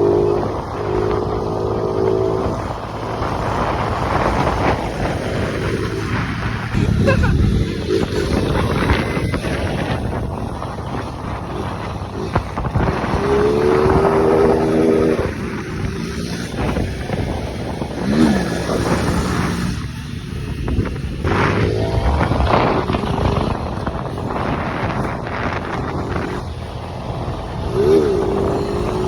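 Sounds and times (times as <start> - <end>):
motorcycle engines revving: 0.0 - 29.0
wind noise on microphone: 0.0 - 29.0.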